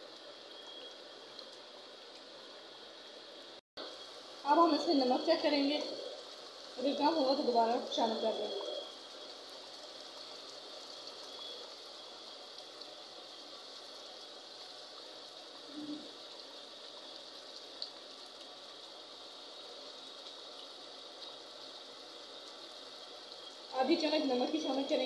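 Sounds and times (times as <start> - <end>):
gravy bubbling in a pot: 0.0 - 25.0.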